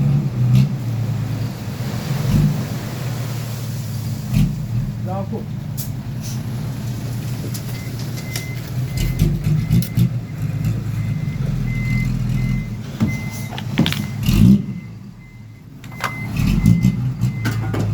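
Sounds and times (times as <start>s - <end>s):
vehicle engine rumble: 0.0s - 17.9s.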